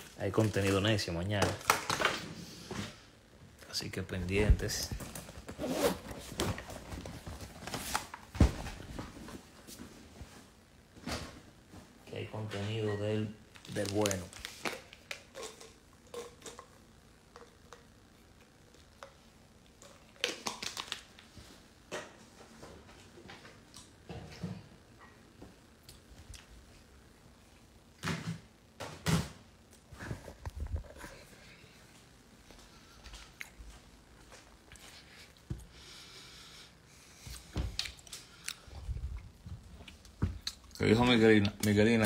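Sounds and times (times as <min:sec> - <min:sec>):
faint room hiss: 0:00.0 - 0:42.0.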